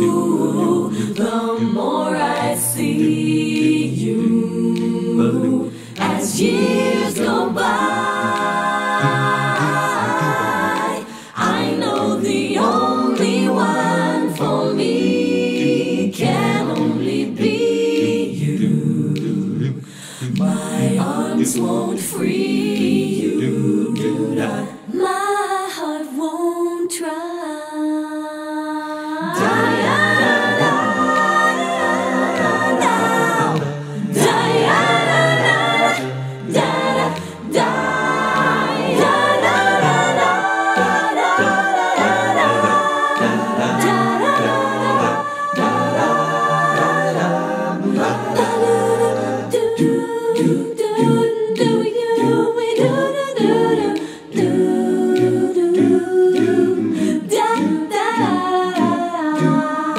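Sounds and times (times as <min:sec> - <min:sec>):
a cappella ensemble scat singing: 0:00.0 - 0:59.9.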